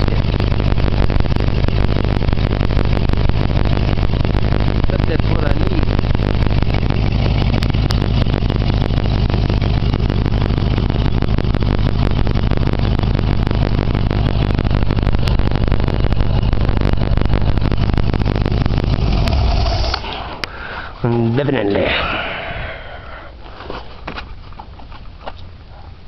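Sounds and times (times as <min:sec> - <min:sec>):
engine running with ticking: 0:00.0 - 0:26.0.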